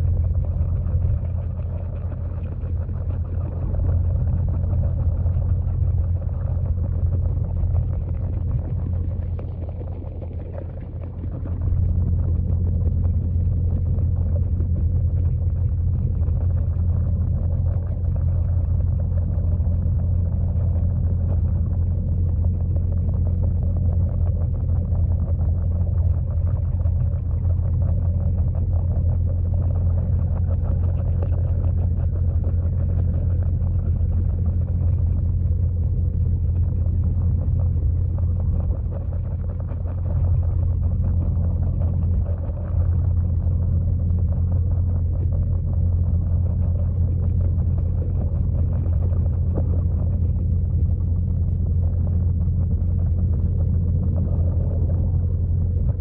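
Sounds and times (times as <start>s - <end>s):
muffled underwater waterfall rumble: 0.0s - 56.0s.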